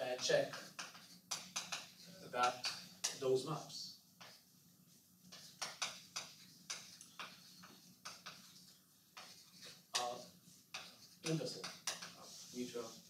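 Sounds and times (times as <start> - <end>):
chalk tapping and scraping on blackboard: 0.0 - 13.0.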